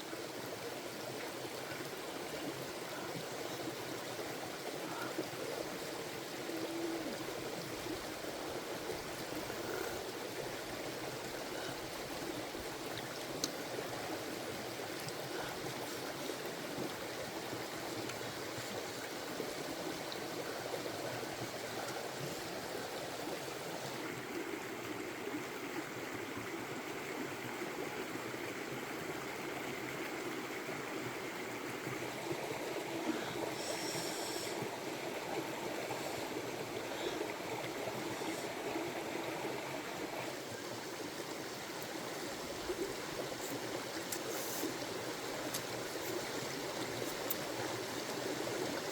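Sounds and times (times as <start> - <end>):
stream running over rocks: 0.0 - 48.9.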